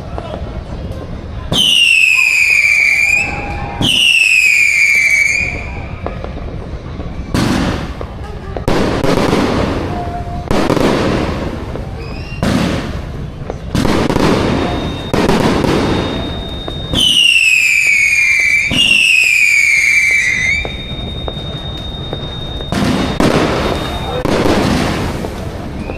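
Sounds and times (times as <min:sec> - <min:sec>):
fireworks banging: 0:00.0 - 0:25.9
whistling fireworks: 0:00.0 - 0:25.9.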